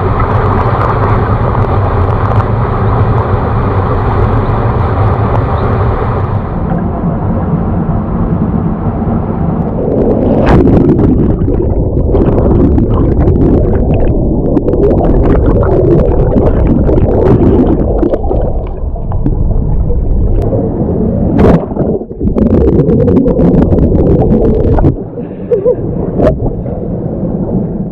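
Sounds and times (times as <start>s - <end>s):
water churning and gurgling: 0.0s - 27.9s.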